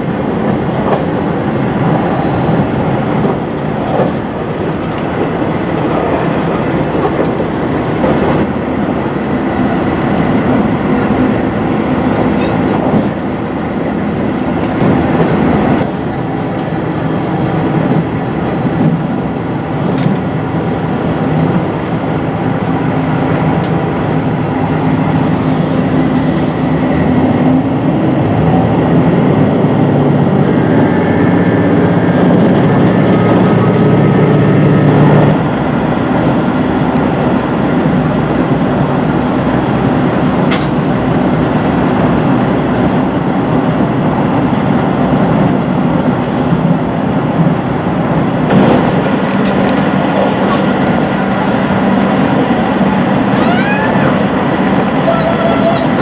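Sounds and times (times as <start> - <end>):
diesel engine drone: 0.0 - 56.0
rail noise: 0.0 - 56.0.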